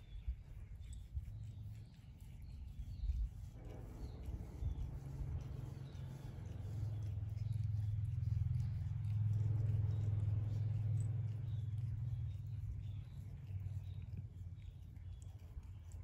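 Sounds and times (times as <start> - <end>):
cat licking paw: 0.0 - 16.0.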